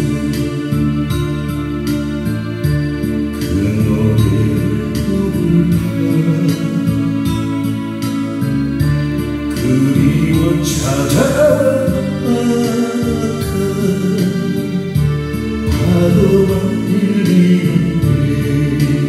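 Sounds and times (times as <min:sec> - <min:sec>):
man singing: 0:00.0 - 0:02.0, 0:03.3 - 0:07.8, 0:09.5 - 0:19.0
acoustic guitar chords: 0:00.0 - 0:19.0.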